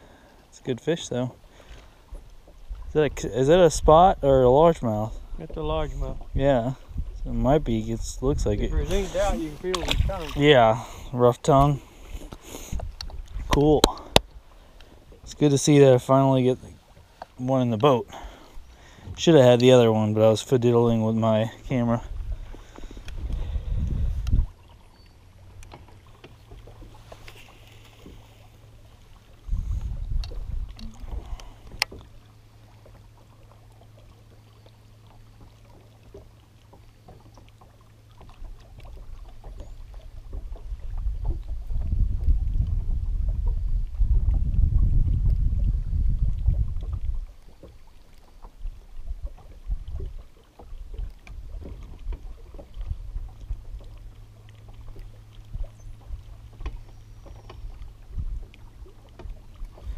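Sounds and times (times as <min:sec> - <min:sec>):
water washing against boat hull: 0:01.1 - 0:59.9.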